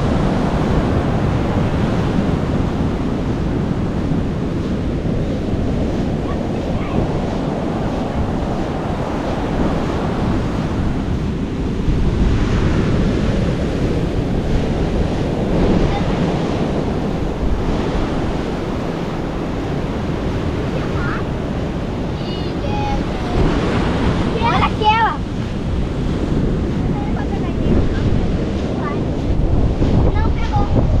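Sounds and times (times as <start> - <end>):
ocean surf washing in: 0.0 - 31.0
wind rumbling on microphone: 0.0 - 31.0.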